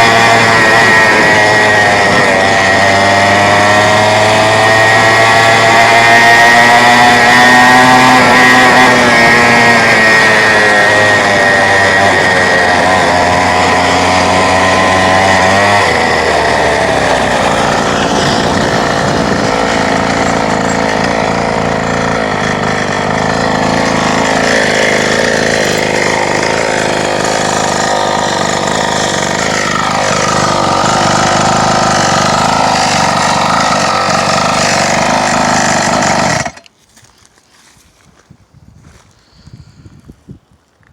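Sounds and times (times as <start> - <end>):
two-stroke quad engine revving: 0.0 - 36.7.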